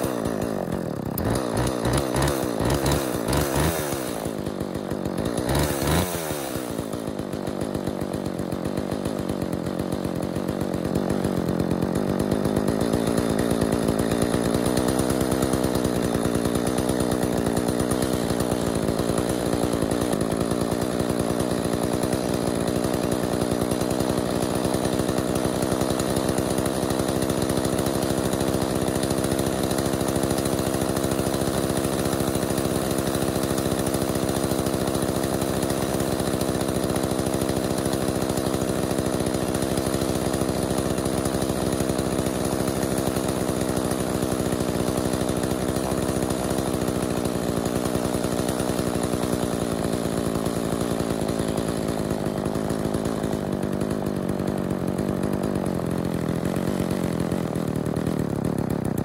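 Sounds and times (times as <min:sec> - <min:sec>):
chainsaw engine idling fast: 0:00.0 - 0:59.0.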